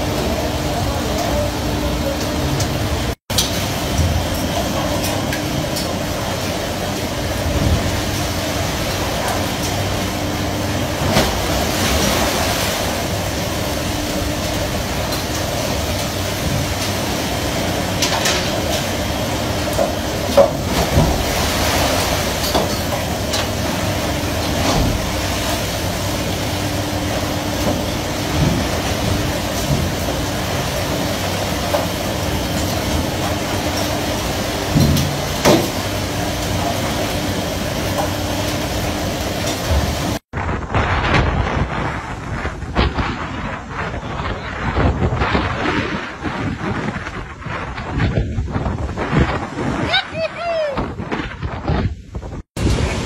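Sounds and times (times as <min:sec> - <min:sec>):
machinery rumble: 0:00.0 - 0:53.0
rushing sea: 0:00.0 - 0:53.0.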